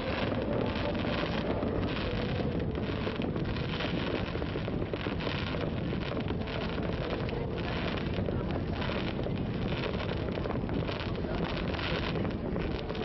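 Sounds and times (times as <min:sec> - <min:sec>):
low rumble: 0:00.0 - 0:13.0
wind buffeting microphone: 0:00.0 - 0:13.0.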